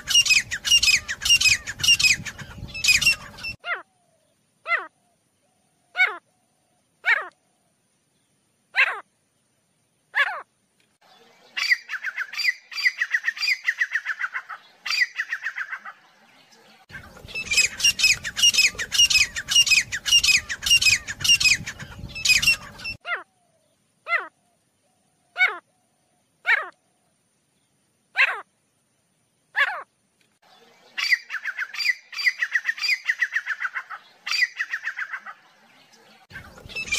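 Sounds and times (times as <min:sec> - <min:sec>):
francolin calling: 0:00.0 - 0:07.8, 0:11.1 - 0:27.2, 0:29.6 - 0:36.9.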